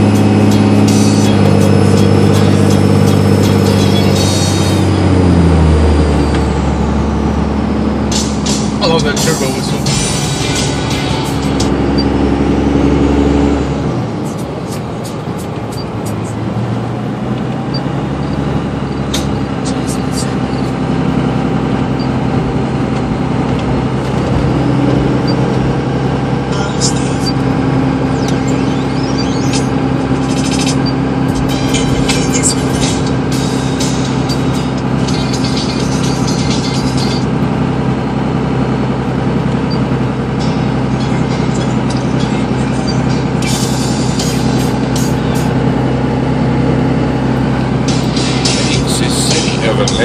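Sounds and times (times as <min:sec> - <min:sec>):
engine drone inside car: 0:00.0 - 0:50.0.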